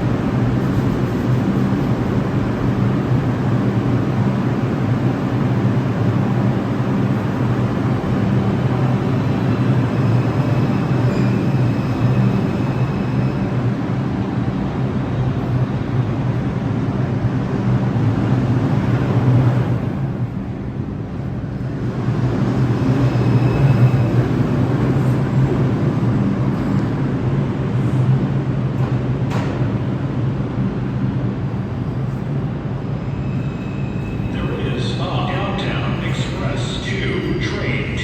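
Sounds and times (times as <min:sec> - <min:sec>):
subway train rumbling: 0:00.0 - 0:38.0.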